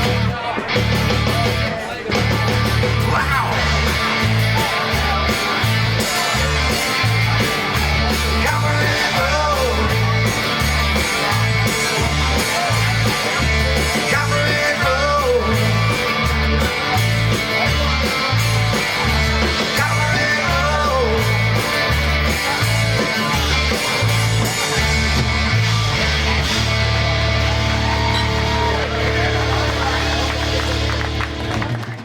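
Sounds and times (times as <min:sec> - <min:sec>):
pulsing bass line: 0:00.0 - 0:31.9
electric guitar: 0:00.0 - 0:32.0.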